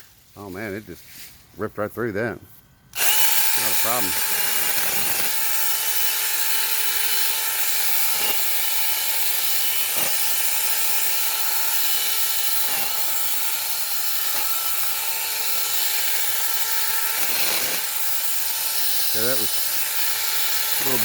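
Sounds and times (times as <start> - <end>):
chainsaw cutting a branch: 2.9 - 21.0.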